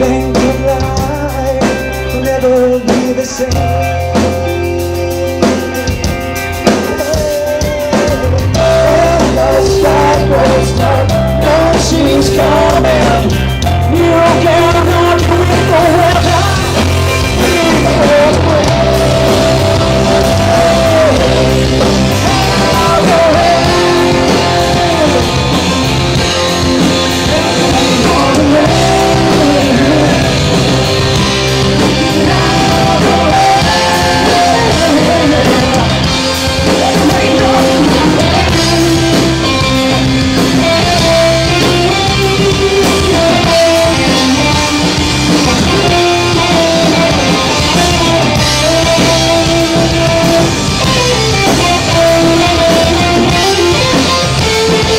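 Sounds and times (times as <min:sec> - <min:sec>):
live rock band playing: 0:00.0 - 0:54.9
melodic lead guitar bending: 0:00.0 - 0:54.9.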